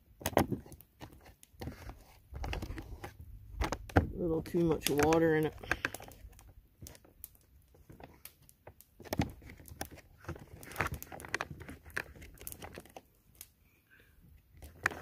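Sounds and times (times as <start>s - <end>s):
foil pouch crinkling: 0.5s - 13.5s, 14.5s - 15.0s.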